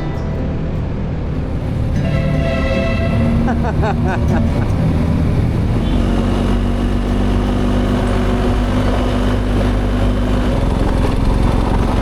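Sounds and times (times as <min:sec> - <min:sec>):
motorcycle engine running: 0:01.5 - 0:12.0.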